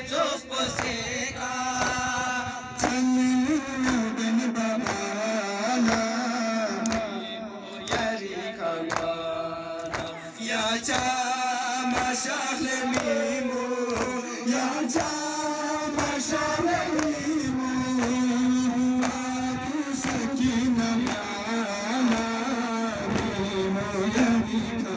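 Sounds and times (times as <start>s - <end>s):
men chanting a lament: 0.0s - 24.9s
sharp rhythmic thumps: 0.6s - 1.0s, 1.7s - 10.2s, 10.8s - 14.3s, 14.9s - 24.9s.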